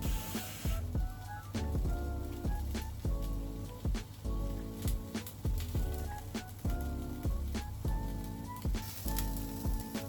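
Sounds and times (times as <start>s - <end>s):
music with heavy bass and beat: 0.0s - 10.0s.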